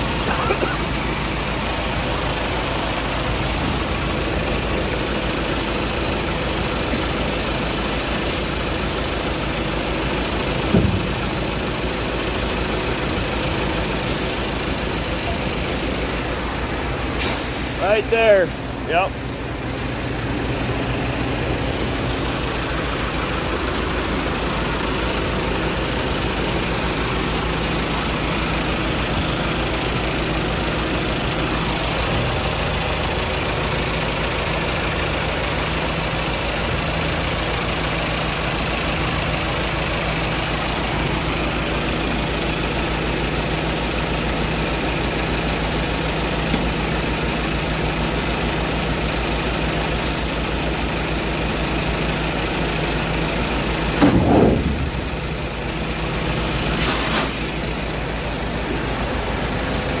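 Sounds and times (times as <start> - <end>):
diesel truck engine idling: 0.0 - 60.0.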